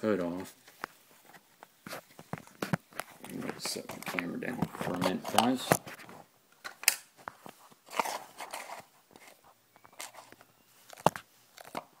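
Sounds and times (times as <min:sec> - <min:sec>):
camera handling rustling: 0:00.7 - 0:11.9.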